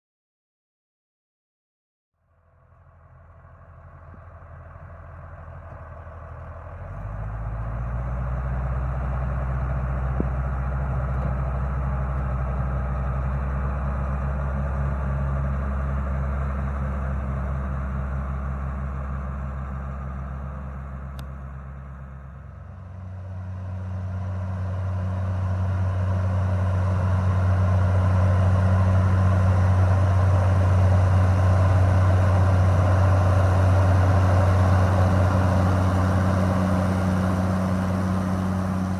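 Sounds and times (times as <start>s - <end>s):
sprayer engine and fan hum: 4.0s - 38.9s.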